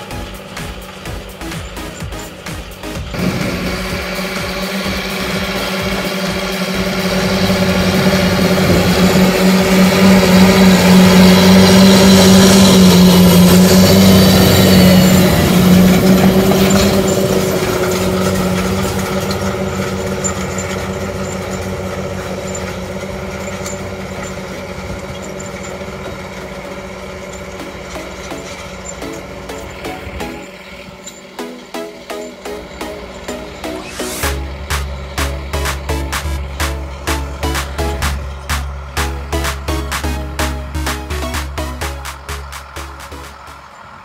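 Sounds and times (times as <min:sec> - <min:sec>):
tractor diesel engine at full throttle: 0:00.0 - 0:44.0.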